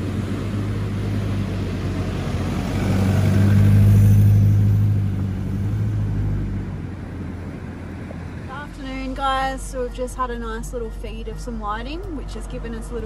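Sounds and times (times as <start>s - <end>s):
vehicle engine hum passing: 0.0s - 13.0s.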